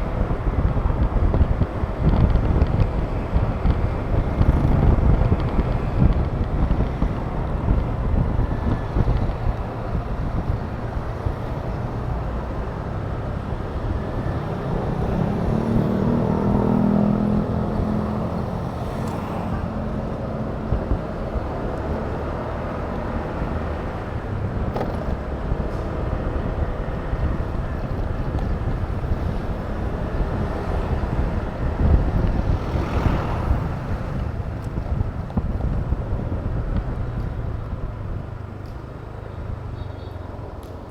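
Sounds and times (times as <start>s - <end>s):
scooter engine droning: 0.0s - 40.9s
wind rushing over microphone: 0.0s - 40.9s.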